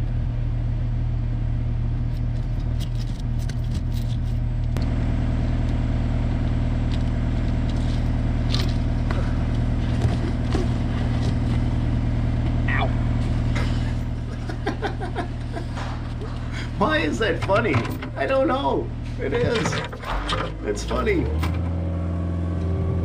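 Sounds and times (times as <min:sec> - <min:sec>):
heavy equipment engine running: 0:00.0 - 0:23.0.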